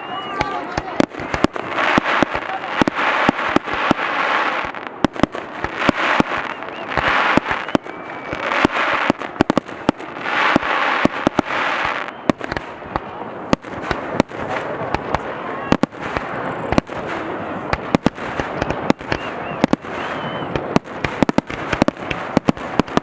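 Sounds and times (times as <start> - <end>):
crackling hiss of firework bursts: 0.0 - 23.0
firework shells banging: 0.4 - 23.0.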